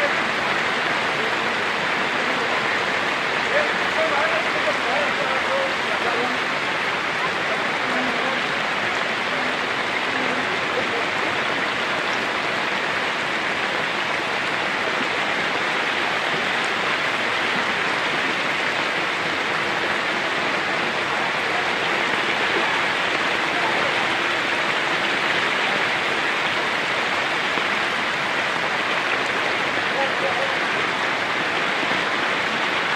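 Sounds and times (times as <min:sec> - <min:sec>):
heavy rain: 0:00.0 - 0:32.9
rushing floodwater: 0:00.0 - 0:32.9.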